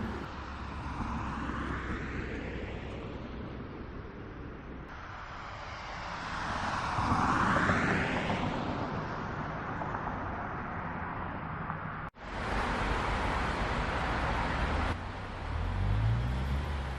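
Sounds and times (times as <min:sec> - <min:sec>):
road traffic noise: 0:00.0 - 0:16.9.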